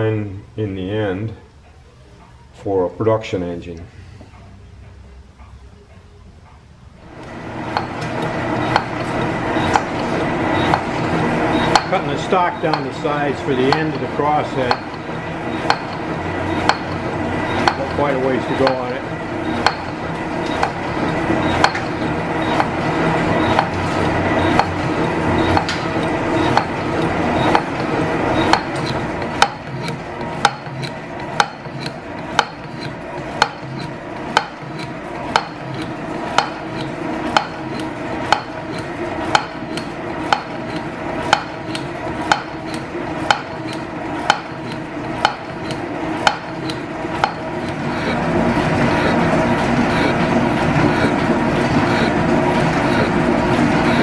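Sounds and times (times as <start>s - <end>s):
metal shaper running: 7.0s - 54.0s.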